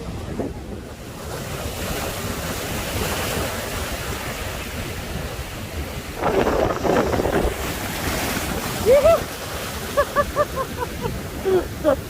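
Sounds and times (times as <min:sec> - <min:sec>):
sea waves breaking: 0:00.0 - 0:12.0
wind buffeting microphone: 0:00.0 - 0:12.0.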